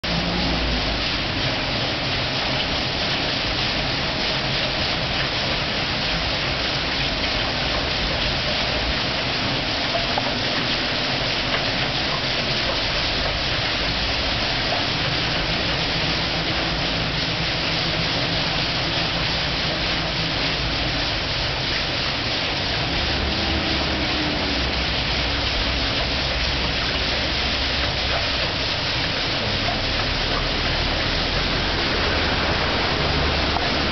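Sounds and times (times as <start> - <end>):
water rushing through water wheel: 0.0 - 33.9.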